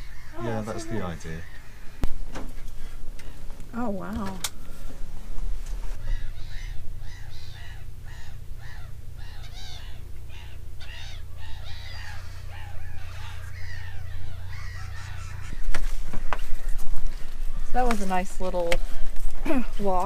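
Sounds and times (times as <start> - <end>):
gulls calling: 0.0 - 5.0, 5.8 - 20.0
steady low rumble: 0.0 - 20.0.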